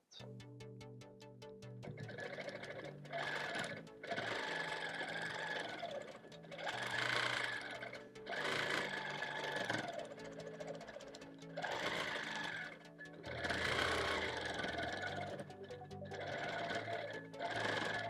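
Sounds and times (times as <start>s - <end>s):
background music: 0.0s - 18.0s
quilting machine stitching: 2.0s - 18.0s.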